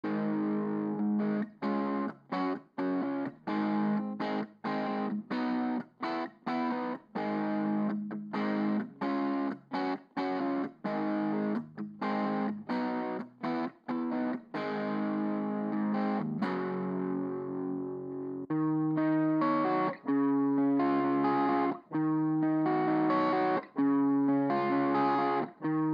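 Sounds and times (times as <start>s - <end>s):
overdriven electric guitar riff: 0.0s - 25.9s.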